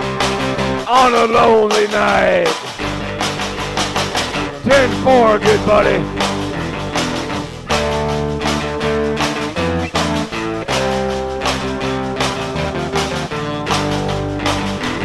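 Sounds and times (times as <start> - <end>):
instrumental country-rock band: 0.0 - 15.0.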